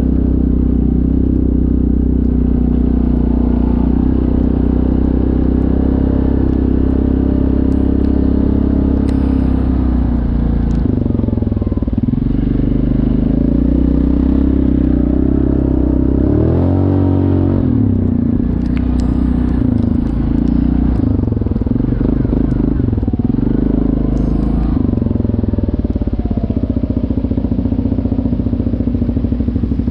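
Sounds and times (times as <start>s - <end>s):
quad bike engine running: 0.0s - 29.9s.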